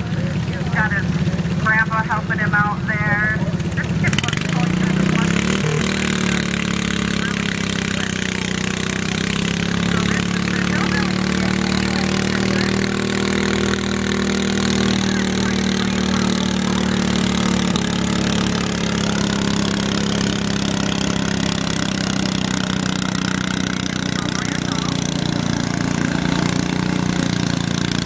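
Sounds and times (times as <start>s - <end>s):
garden tractor engine running: 0.0s - 28.0s.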